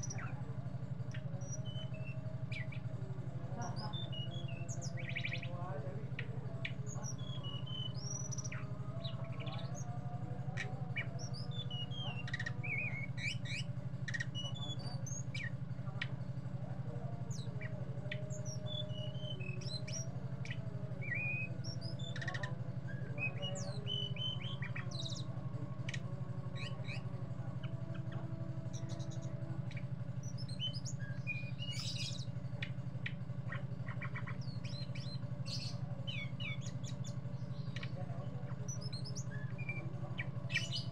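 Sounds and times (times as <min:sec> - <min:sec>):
songbird singing: 0:00.0 - 0:40.9
steady low hum: 0:00.0 - 0:40.9.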